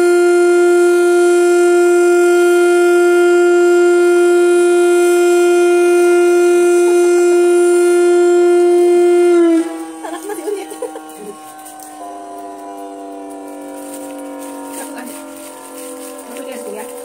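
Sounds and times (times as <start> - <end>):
siren steady tone: 0.0 - 17.0.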